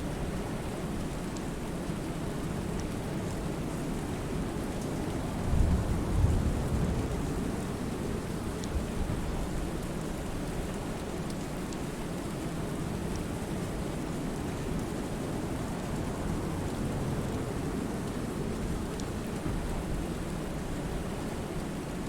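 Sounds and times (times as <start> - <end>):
rain on a lake: 0.0 - 22.0.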